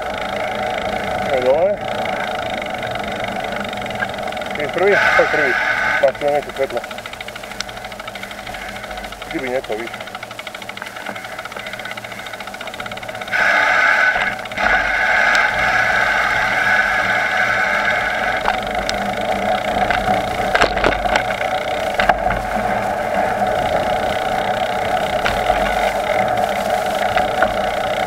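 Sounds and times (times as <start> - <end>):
bicycle tyres rolling: 0.0 - 28.0
sharp rattles: 0.0 - 28.0
steady whine: 0.0 - 28.0.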